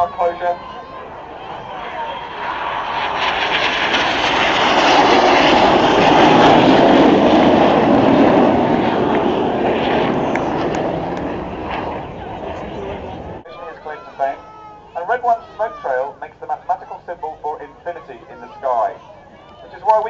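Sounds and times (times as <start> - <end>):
jets passing at low level: 0.0 - 19.0.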